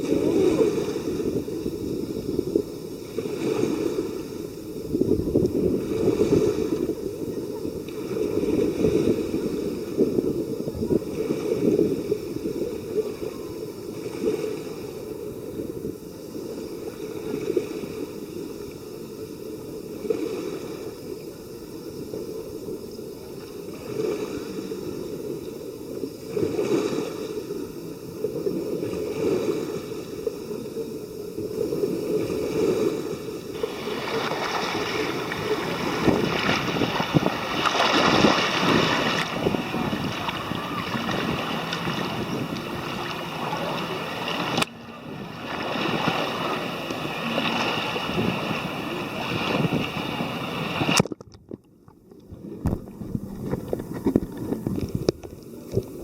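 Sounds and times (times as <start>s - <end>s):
sea waves washing on beach: 0.0s - 56.0s
wind rumble on microphone: 0.0s - 56.0s.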